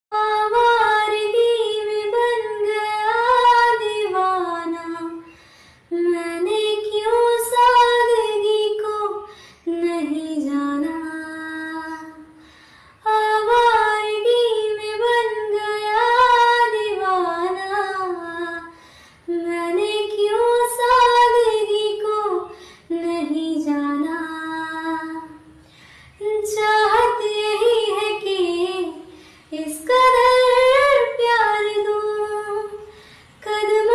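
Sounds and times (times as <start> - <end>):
woman singing slow song: 0.1 - 33.9.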